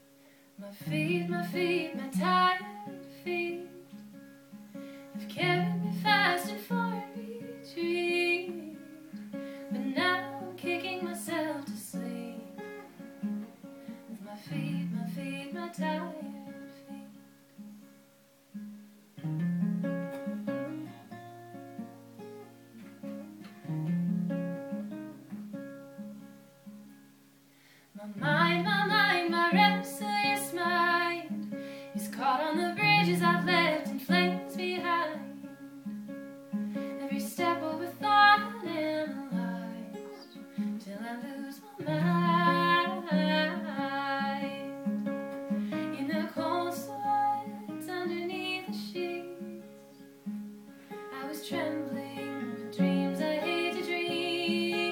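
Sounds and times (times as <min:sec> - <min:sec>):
acoustic guitar picking and strumming: 0:00.6 - 0:27.2, 0:28.0 - 0:54.9.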